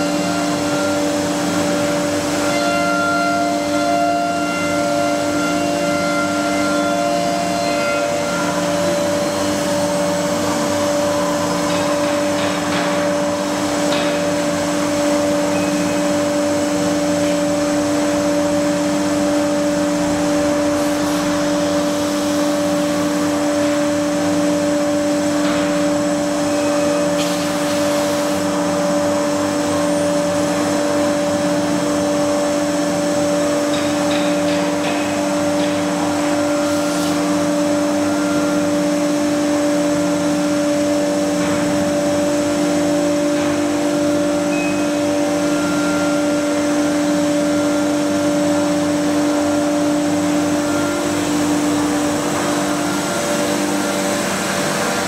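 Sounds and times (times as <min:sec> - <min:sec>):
router spindle high whine: 0:00.0 - 0:33.6, 0:34.8 - 0:55.0.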